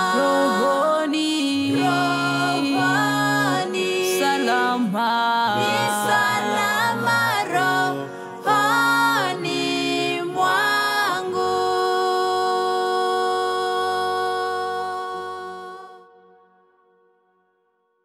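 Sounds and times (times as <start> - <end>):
gospel singing: 0.0 - 16.4.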